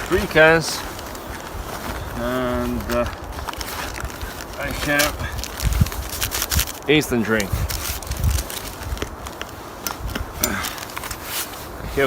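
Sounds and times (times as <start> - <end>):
gear clicking and rustling: 0.0 - 12.0
wind rumbling on microphone: 0.0 - 12.0.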